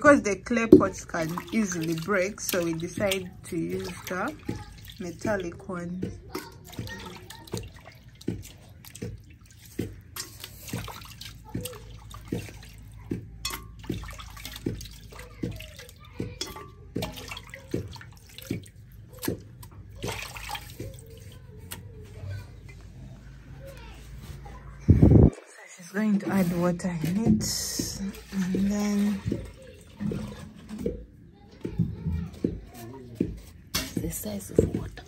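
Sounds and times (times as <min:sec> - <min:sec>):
water splashing in metal basin: 0:00.1 - 0:22.0, 0:25.8 - 0:35.0.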